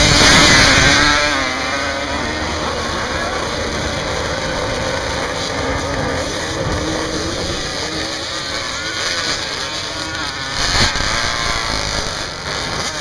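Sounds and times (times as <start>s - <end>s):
engines revving unevenly: 0.0s - 13.0s.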